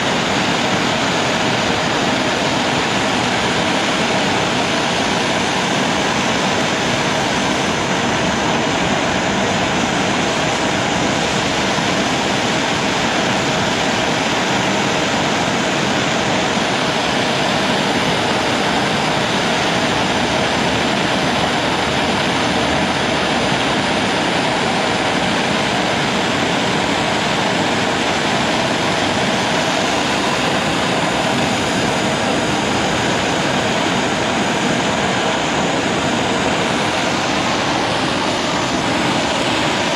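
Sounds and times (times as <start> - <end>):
heating tool blowing: 0.0 - 39.9.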